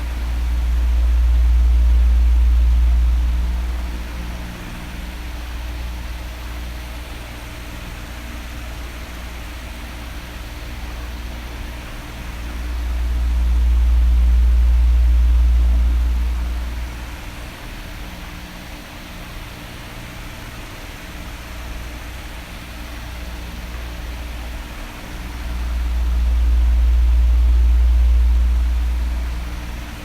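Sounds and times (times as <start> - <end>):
electric fan running: 0.0 - 30.0.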